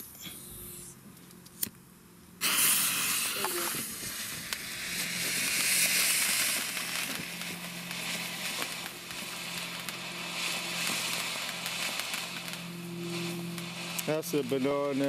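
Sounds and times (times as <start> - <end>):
firework hissing sparks: 0.0 - 1.0, 2.4 - 15.0
firework crackling: 2.4 - 15.0.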